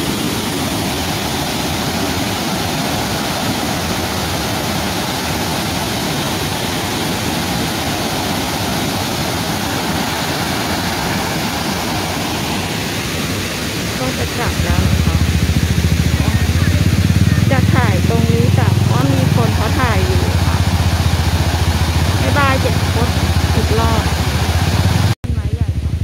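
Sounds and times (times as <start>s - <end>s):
waterfall rushing: 0.0s - 25.2s.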